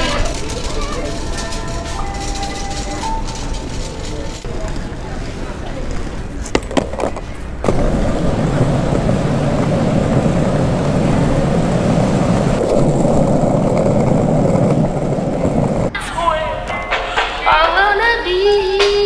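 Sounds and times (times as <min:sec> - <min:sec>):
skateboard wheels rolling on asphalt: 0:00.0 - 0:15.9.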